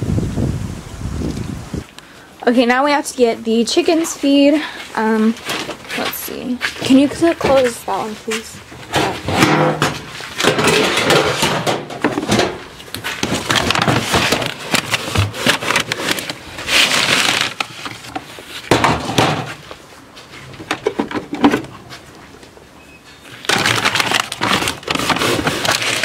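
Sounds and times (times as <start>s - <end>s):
rustling and scraping in metal cans: 2.5s - 26.0s.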